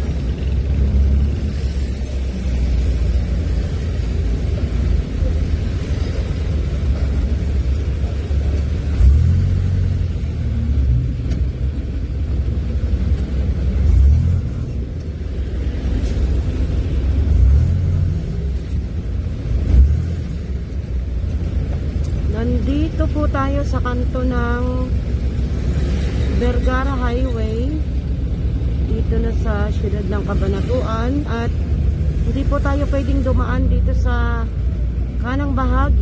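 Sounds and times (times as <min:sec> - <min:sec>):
car engine and tyres rumbling: 0:00.0 - 0:36.0.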